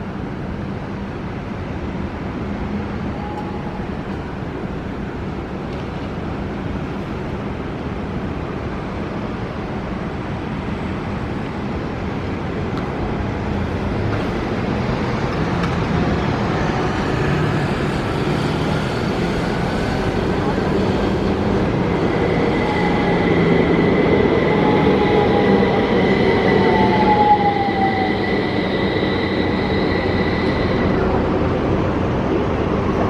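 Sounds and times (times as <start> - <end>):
city road traffic: 0.0 - 33.0
tram approaching: 0.0 - 33.0.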